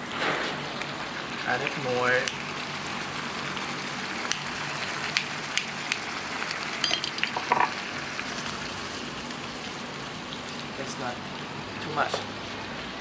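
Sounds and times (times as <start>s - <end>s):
meat sizzling in a pan: 1.0s - 6.8s, 7.7s - 13.0s.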